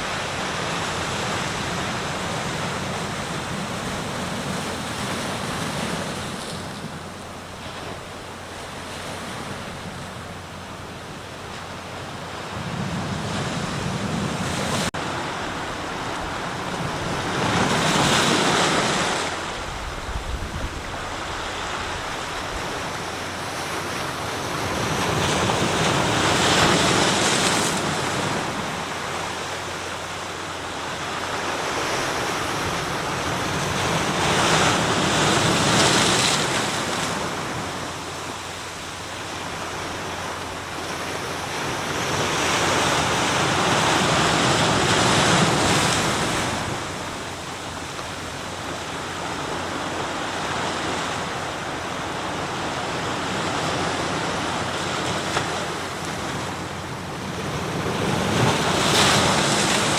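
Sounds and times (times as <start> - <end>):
waves breaking and washing ashore: 0.0 - 59.9.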